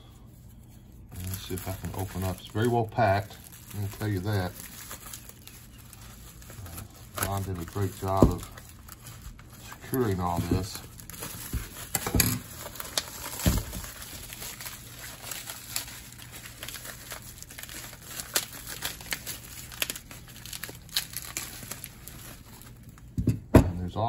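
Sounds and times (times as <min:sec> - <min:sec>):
bubble wrap crinkling and crackling: 0:00.0 - 0:23.2.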